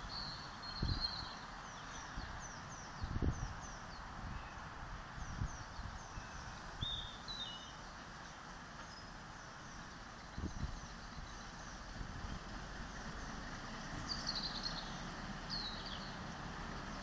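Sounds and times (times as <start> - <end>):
small birds singing: 0.0 - 17.0
steady outdoor hiss: 0.0 - 17.0.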